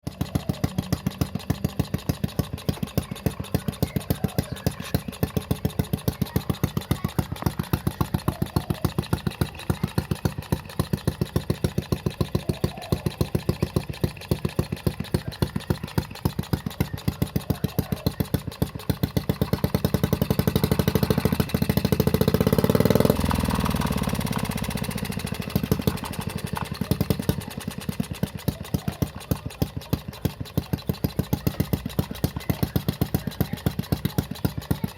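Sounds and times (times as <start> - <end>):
small engine idling and revving: 0.0 - 34.9.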